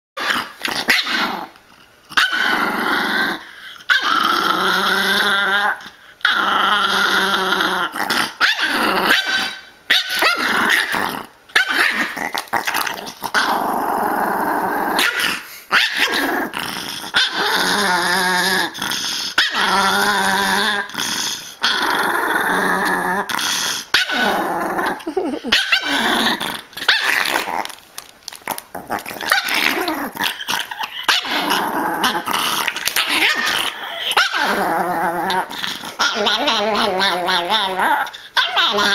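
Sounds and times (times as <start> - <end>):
dog growling: 0.2 - 27.8, 28.4 - 38.9.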